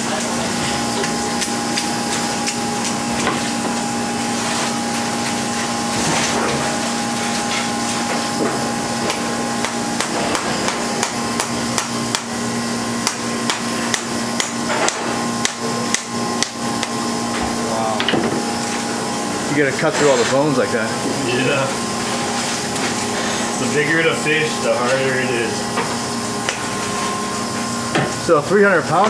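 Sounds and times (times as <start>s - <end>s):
steady machine hum: 0.0s - 29.0s.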